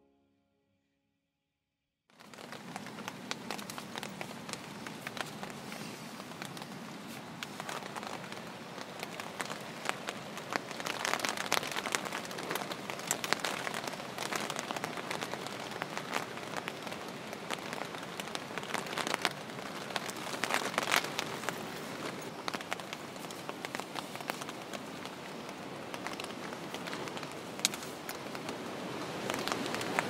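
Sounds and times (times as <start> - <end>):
heavy rain on tent fabric: 2.1 - 30.0.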